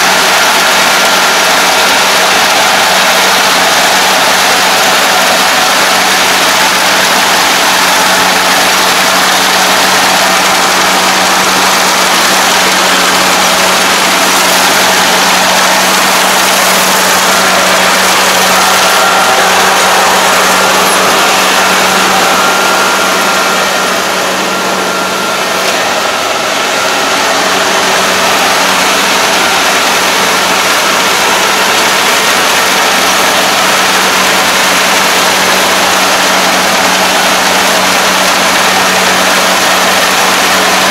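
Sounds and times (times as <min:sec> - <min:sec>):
combine harvester mechanical drone: 0:00.0 - 0:40.9.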